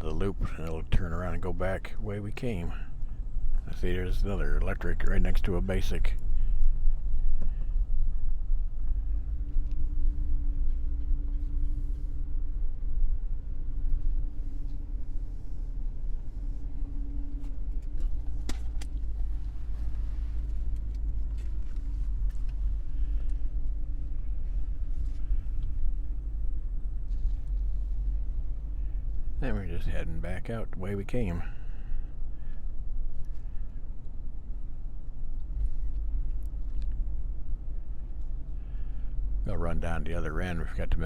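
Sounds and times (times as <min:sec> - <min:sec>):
car engine and road rumble: 0:00.0 - 0:41.0
faint steady hum: 0:00.0 - 0:41.0.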